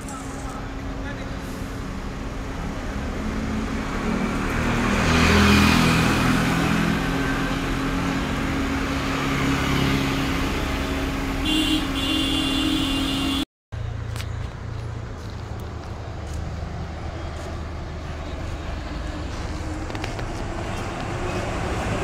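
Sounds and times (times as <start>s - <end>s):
traffic noise: 0.0s - 22.0s
vehicle engine humming: 0.0s - 22.0s
vehicle passing: 1.1s - 11.9s, 13.8s - 22.0s.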